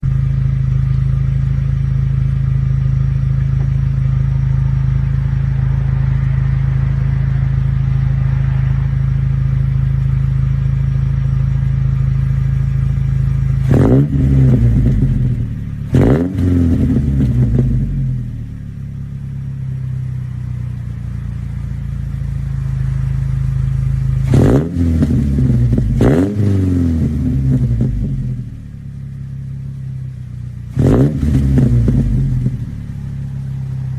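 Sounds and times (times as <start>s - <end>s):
car engine revving: 0.0s - 33.9s
car exhaust idling: 0.0s - 33.9s.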